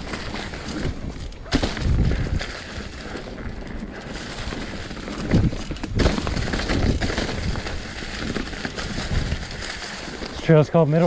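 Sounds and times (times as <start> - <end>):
bike rattling and knocking: 0.0 - 11.0
bike tyres crackling through leaves: 0.0 - 11.0.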